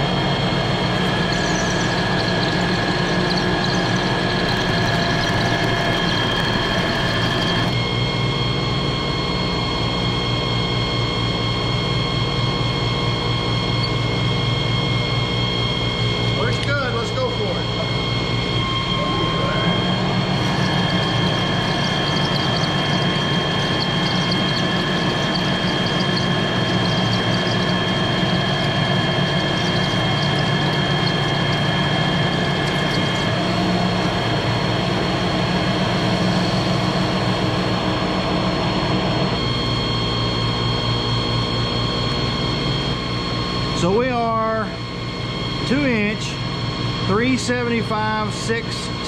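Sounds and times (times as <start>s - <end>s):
metal lathe whining hum: 0.0s - 49.0s.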